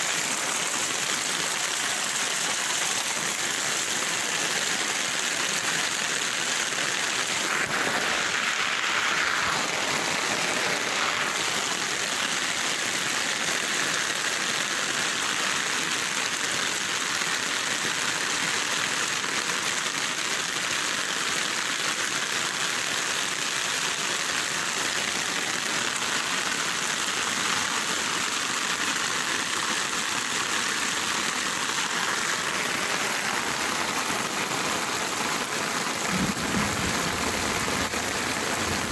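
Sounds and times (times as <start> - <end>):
floodwater rushing: 0.0 - 38.9
heavy rain falling: 0.0 - 38.9.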